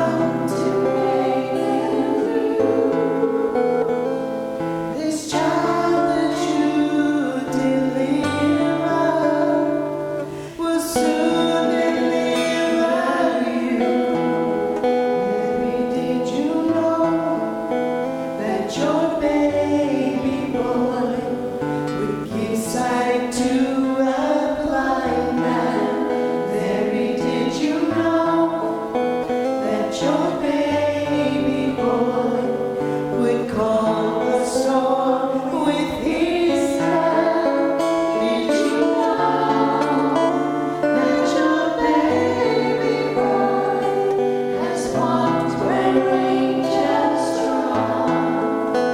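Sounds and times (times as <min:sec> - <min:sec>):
guitar accompaniment: 0:00.0 - 0:48.9
voices singing: 0:00.0 - 0:48.9.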